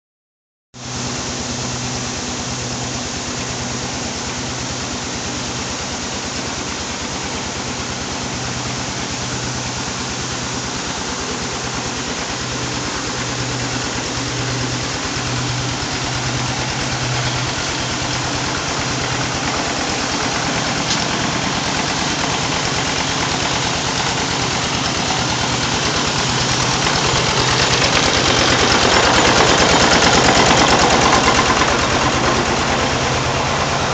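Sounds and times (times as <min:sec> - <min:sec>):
engine running with pulsing hum: 0:00.8 - 0:33.9.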